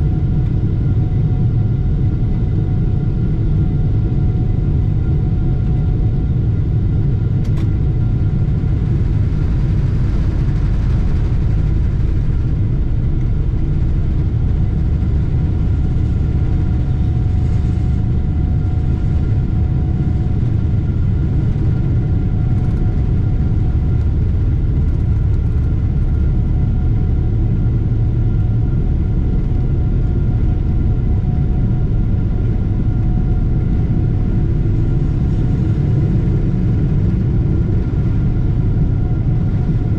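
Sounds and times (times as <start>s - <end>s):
faint steady whine: 0.0s - 39.9s
jet engine rumble: 0.0s - 39.9s.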